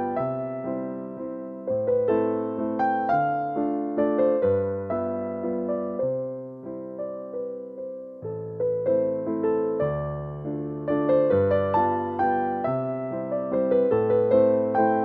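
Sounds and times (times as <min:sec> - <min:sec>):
calm piano melody: 0:00.0 - 0:15.0.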